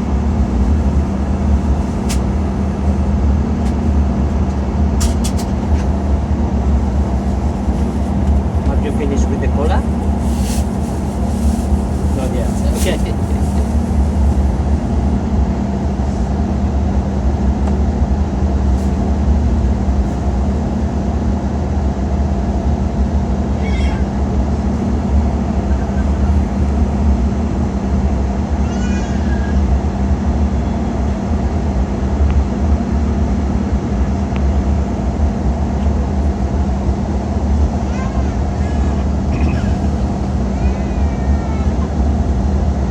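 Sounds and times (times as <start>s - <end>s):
airliner cabin engine drone: 0.0s - 42.9s.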